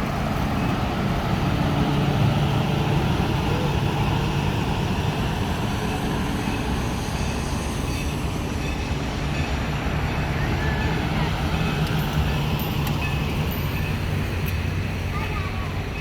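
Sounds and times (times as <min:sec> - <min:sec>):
passenger train rumbling past: 0:00.0 - 0:16.0.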